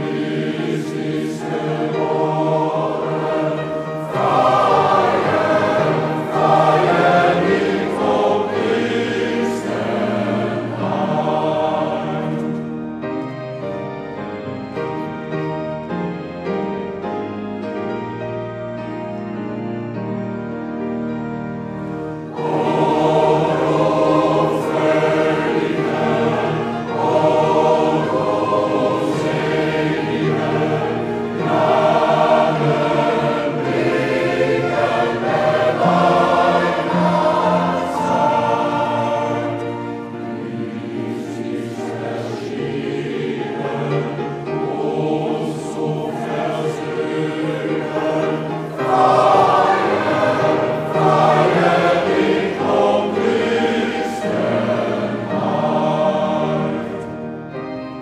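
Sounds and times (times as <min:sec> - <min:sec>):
mixed choir singing: 0:00.0 - 0:15.3, 0:22.0 - 0:58.0.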